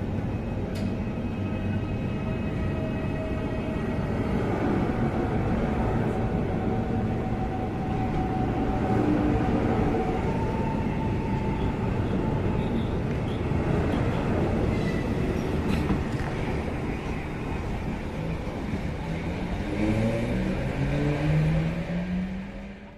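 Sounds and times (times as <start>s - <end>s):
rising train motor whine: 0.0s - 22.9s
train wheels rumbling on rails: 0.0s - 22.9s.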